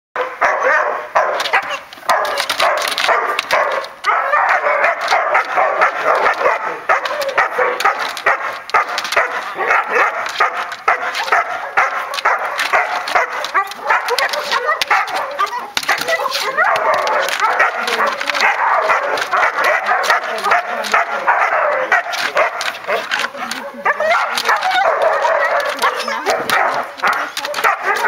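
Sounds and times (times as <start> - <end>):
dog barking rapidly: 0.2 - 28.0.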